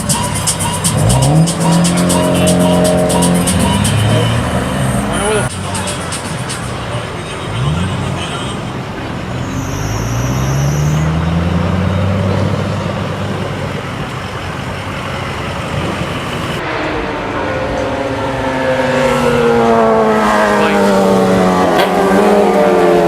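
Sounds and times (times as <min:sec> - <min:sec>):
car accelerating: 0:00.0 - 0:23.0
car engine revving: 0:00.0 - 0:23.0.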